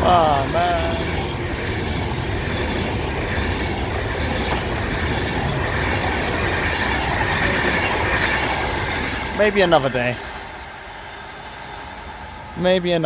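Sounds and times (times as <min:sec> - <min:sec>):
electric train passing at speed: 0:00.0 - 0:13.0
faint high whine: 0:00.0 - 0:13.0.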